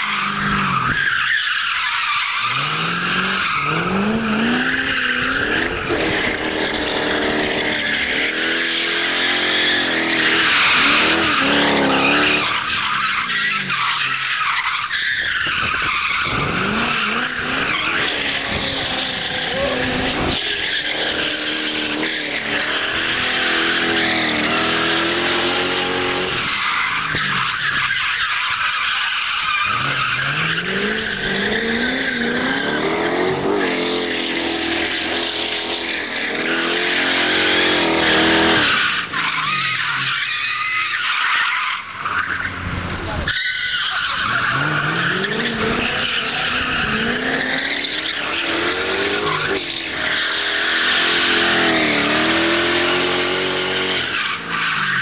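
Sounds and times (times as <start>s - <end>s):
tyres squealing: 0.0s - 55.0s
car engine revving hard: 2.4s - 14.2s, 15.8s - 27.9s, 29.6s - 40.0s, 44.2s - 55.0s.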